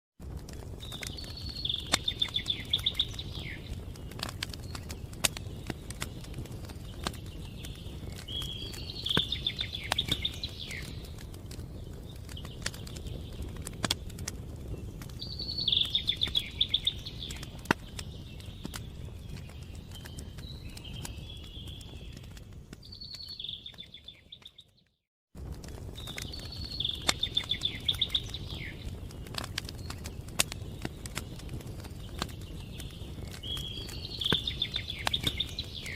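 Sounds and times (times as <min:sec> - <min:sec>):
wood fire crackling: 0:00.2 - 0:35.9.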